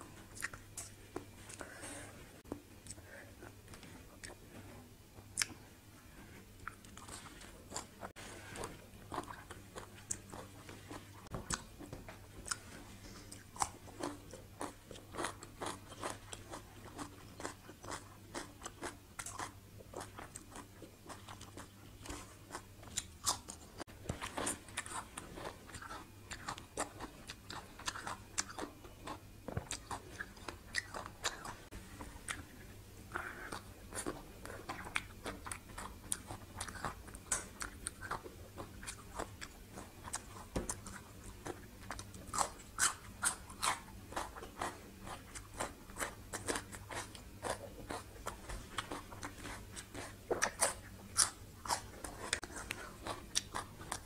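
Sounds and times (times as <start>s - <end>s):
crunchy vegetable chewing: 0.1s - 1.7s, 2.8s - 54.0s.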